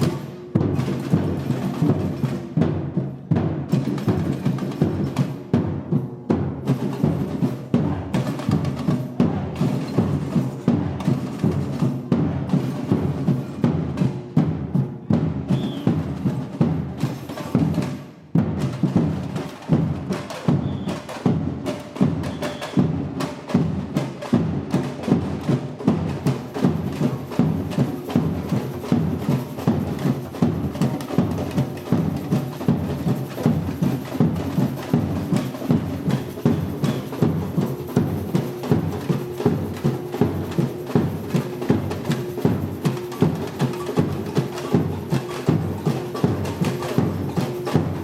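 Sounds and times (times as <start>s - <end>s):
samba percussion ensemble: 0.0s - 48.0s.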